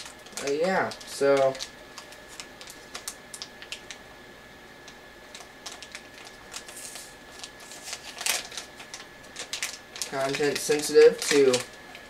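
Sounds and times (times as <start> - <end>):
packaging clicks and rustles: 0.0 - 4.0, 5.3 - 12.0
packaging crinkle: 0.0 - 4.0, 4.8 - 12.0.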